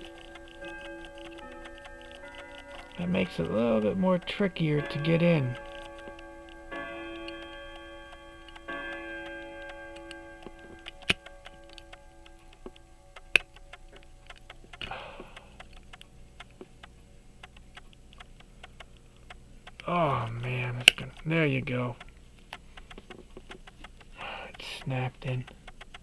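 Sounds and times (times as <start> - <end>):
small metal clicks and taps: 0.0 - 26.0.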